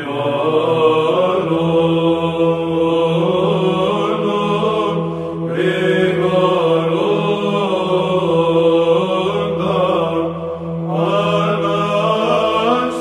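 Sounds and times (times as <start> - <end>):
choir chanting over drone: 0.0 - 13.0.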